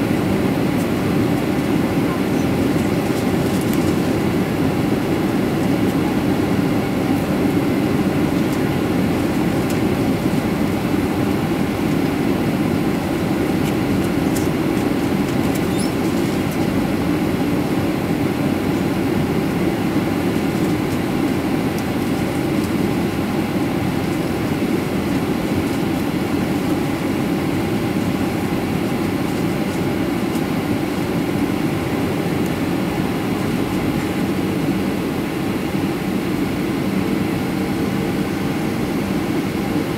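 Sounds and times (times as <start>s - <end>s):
jet engine hum: 0.0s - 39.9s.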